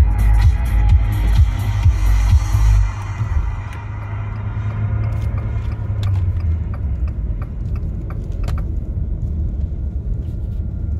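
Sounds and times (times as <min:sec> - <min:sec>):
car cabin road drone: 0:00.0 - 0:10.9.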